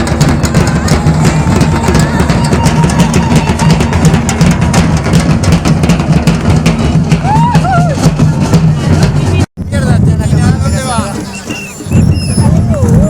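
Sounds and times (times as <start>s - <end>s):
heavy bass drum hits: 0.0s - 11.2s
fast steady drumming: 0.0s - 13.0s.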